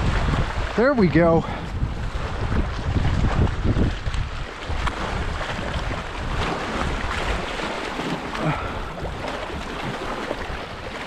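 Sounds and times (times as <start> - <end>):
waves lapping against rocks: 0.0 - 11.0
wind buffeting microphone: 0.0 - 11.0.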